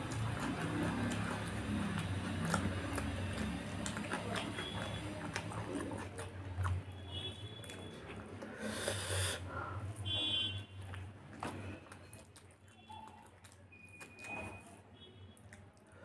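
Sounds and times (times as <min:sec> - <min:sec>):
person chewing: 0:00.0 - 0:16.0.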